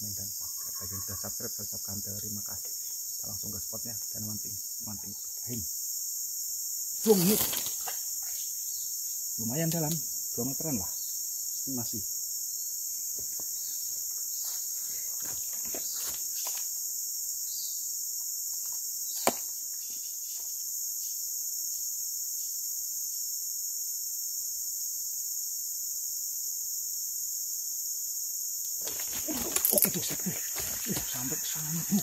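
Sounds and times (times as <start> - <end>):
forest insects chorus: 0.0 - 32.0.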